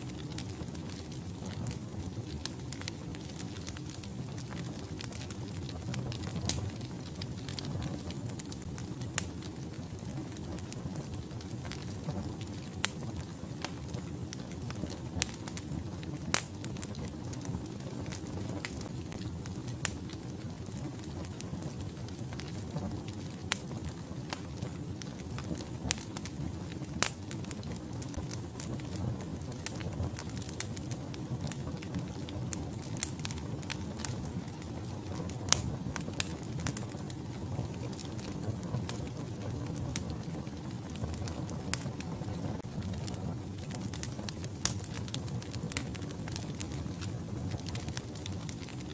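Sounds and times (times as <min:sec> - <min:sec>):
fire flames rumbling: 0:00.0 - 0:48.9
wood fire crackling and popping: 0:00.0 - 0:48.9.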